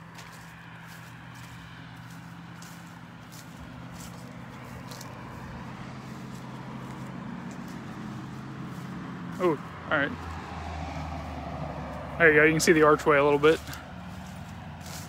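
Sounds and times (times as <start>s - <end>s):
car approaching: 0.0s - 15.0s.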